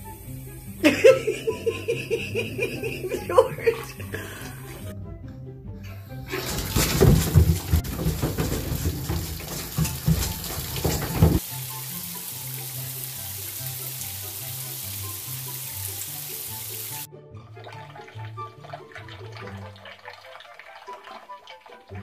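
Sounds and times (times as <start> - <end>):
water running and splashing: 0.0 - 4.9, 6.3 - 22.0
background music: 0.0 - 22.0.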